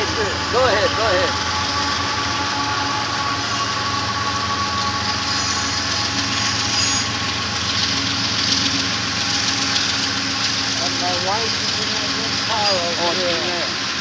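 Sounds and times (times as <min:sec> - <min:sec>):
freight train rumbling past: 0:00.0 - 0:14.0
train wheel squeal: 0:00.0 - 0:14.0.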